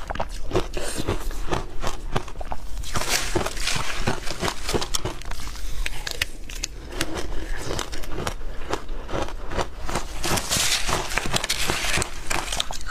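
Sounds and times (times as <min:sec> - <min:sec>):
crunching ice: 0:00.0 - 0:12.9.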